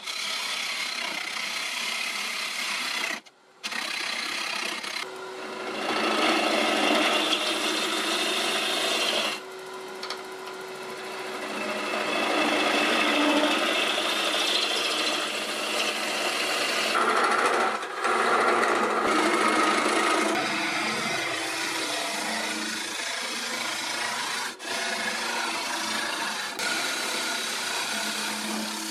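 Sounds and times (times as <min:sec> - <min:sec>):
gouge shaving wood on a lathe: 0:00.0 - 0:09.4, 0:10.7 - 0:28.9.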